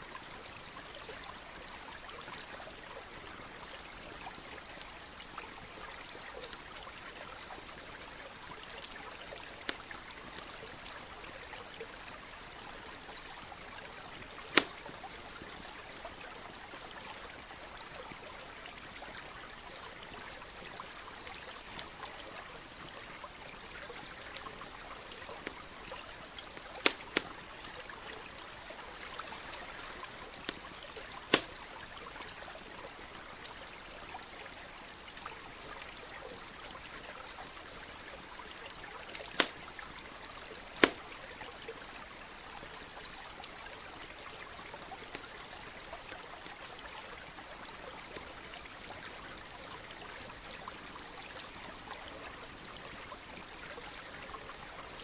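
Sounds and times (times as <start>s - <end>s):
flowing stream: 0.0s - 55.0s
campfire crackling and popping: 0.1s - 55.0s.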